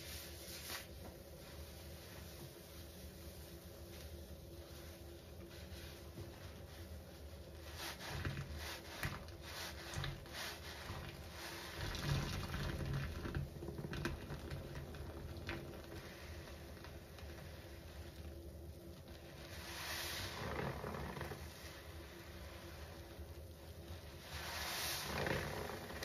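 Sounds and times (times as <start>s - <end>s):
wet sponge squelching: 0.0s - 18.3s, 19.1s - 26.0s
soap suds crackling: 1.5s - 26.0s.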